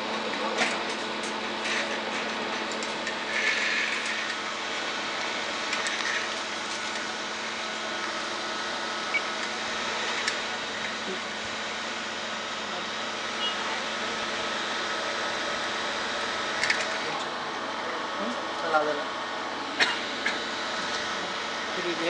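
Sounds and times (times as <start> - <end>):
test equipment humming: 0.0 - 22.0.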